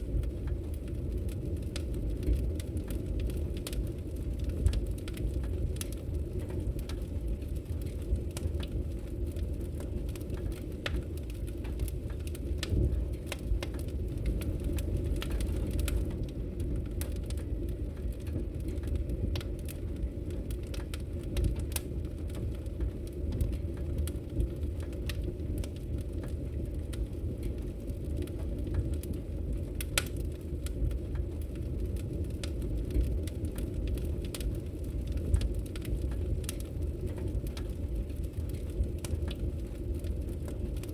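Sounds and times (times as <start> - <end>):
low fire rumble: 0.0 - 40.9
wood logs crackling in fireplace: 0.0 - 40.9.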